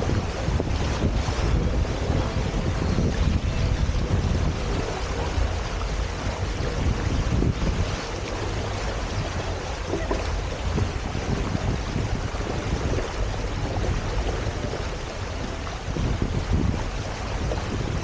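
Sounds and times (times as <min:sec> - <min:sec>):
water rushing along hulls: 0:00.0 - 0:18.0
wind buffeting microphone: 0:00.0 - 0:18.0.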